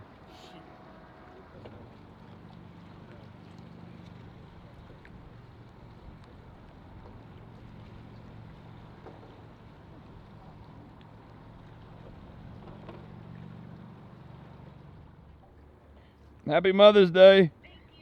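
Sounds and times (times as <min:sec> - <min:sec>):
boat motors idling: 0:00.0 - 0:18.0.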